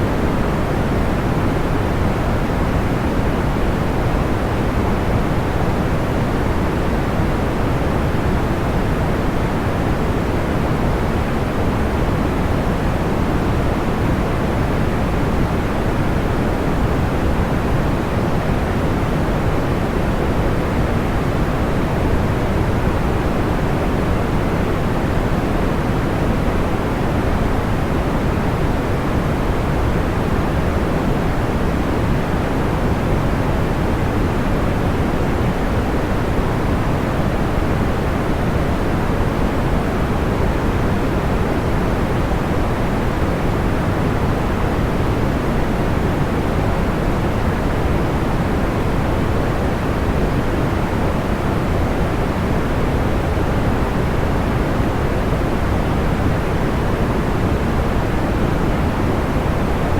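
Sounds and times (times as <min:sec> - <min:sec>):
deep muffled white noise: 0:00.0 - 0:59.9.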